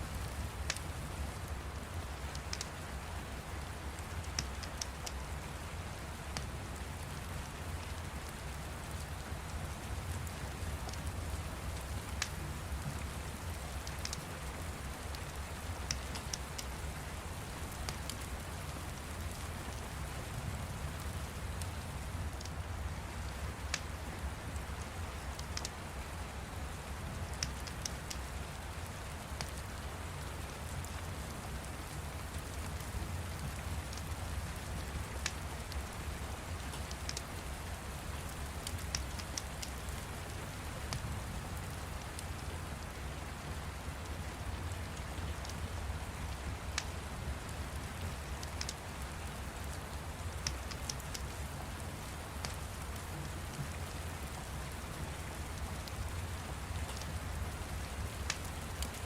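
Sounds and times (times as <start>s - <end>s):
fire crackling: 0.0s - 44.0s, 44.6s - 59.0s
steady rain: 0.0s - 59.0s.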